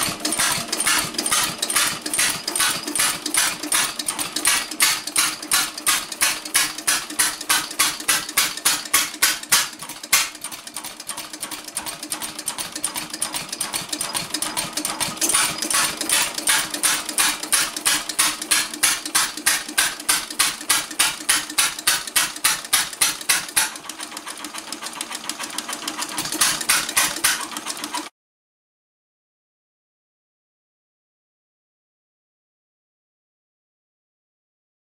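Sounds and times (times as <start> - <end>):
engine clattering: 0.0 - 28.1.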